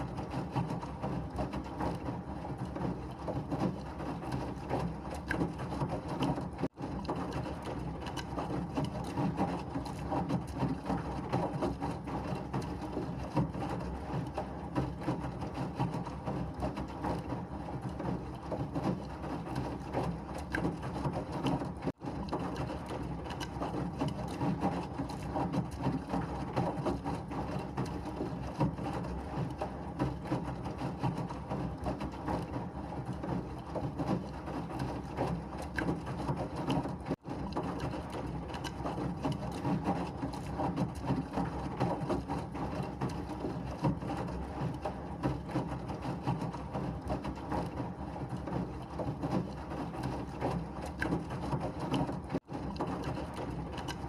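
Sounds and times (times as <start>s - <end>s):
washing machine churning: 0.0s - 54.0s.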